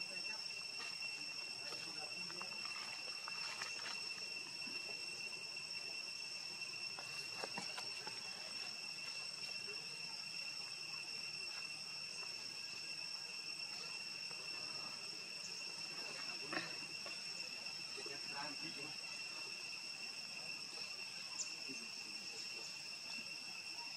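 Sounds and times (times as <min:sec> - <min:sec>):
insects droning high pitch: 0:00.0 - 0:23.9.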